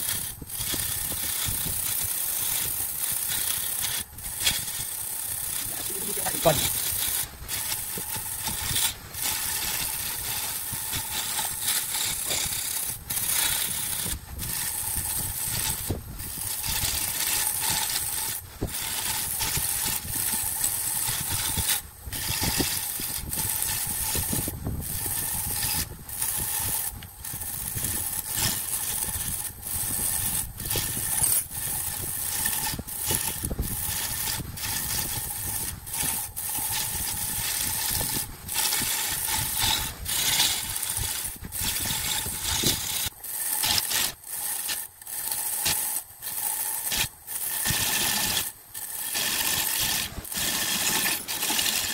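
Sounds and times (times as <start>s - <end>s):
lathe motor whine: 0.0s - 51.9s
tool shearing wood: 0.0s - 51.9s.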